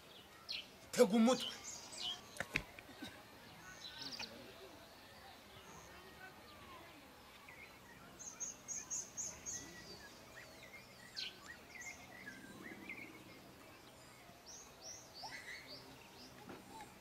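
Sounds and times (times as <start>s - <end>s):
faint background noise: 0.0s - 17.0s
small birds chirping: 0.0s - 17.0s.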